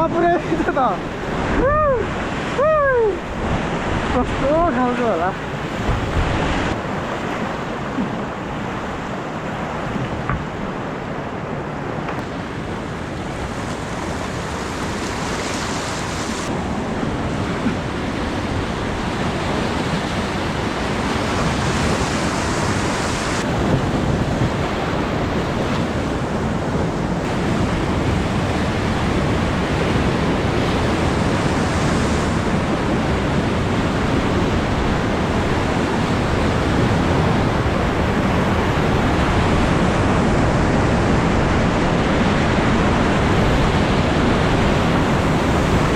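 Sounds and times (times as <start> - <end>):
rushing whitewater: 0.0 - 45.9
wind on microphone: 0.0 - 45.9.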